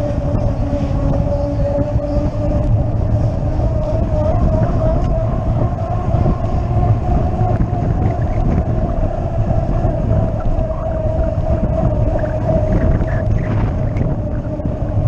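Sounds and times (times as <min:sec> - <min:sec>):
mid-pitched hum: 0:00.0 - 0:15.0
wheels rolling rumble: 0:00.0 - 0:15.0
wind buffeting: 0:00.0 - 0:15.0.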